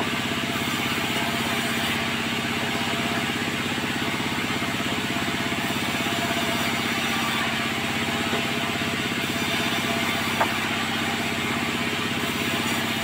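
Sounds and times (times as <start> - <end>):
sawmill engine pulsing: 0.0 - 13.0.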